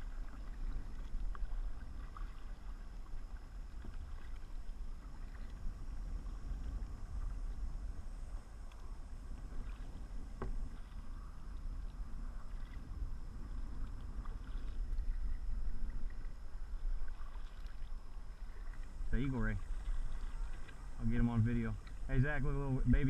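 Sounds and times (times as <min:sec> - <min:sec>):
small water splashes: 0:00.0 - 0:07.6, 0:08.3 - 0:23.0
kayak paddle dipping and dripping: 0:00.0 - 0:23.0
low steady rumble: 0:00.0 - 0:23.0.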